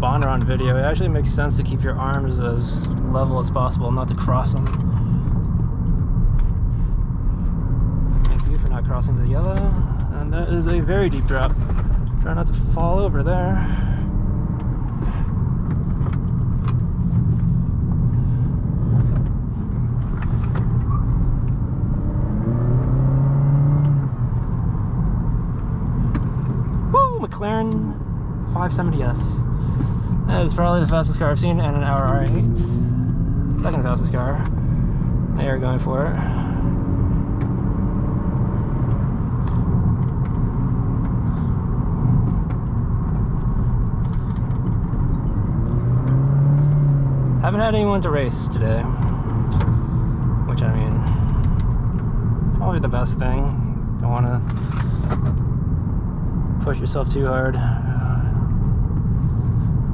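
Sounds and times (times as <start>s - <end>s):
car engine pulling: 0.0s - 59.9s
tyre and road noise: 0.0s - 59.9s.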